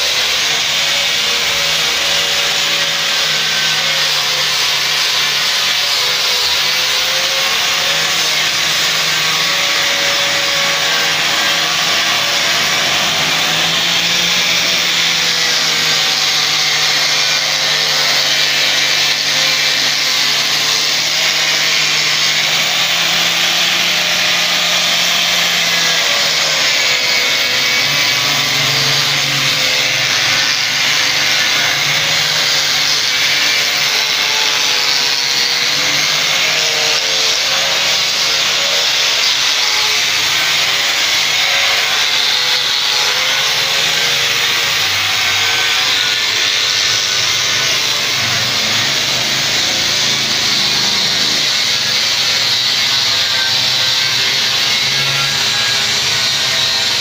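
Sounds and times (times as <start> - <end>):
angle grinder polishing metal: 0.0 - 57.0.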